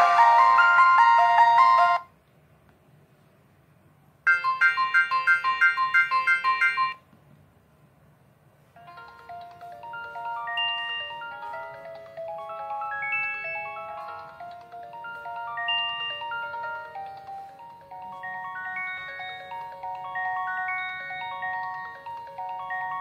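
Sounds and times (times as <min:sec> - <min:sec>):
fast repeating ringtone notes: 0:00.0 - 0:02.0, 0:04.3 - 0:07.0, 0:08.8 - 0:23.0
flowing ringtone melody: 0:00.0 - 0:02.1, 0:04.3 - 0:07.0, 0:08.8 - 0:23.0.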